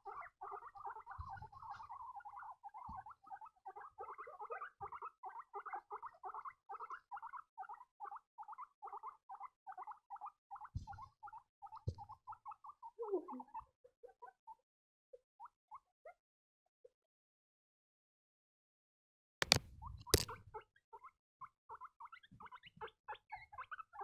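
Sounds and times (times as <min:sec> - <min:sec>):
guinea pigs squeaking: 0:00.0 - 0:16.2, 0:19.4 - 0:24.0.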